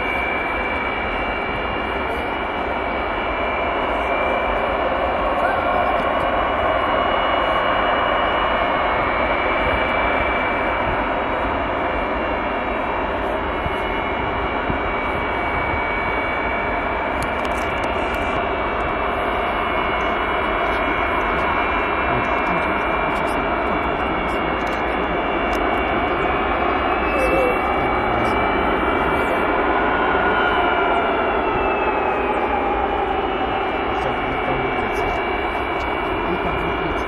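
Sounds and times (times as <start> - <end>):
jet engines rumbling with high whine: 0.0 - 37.0.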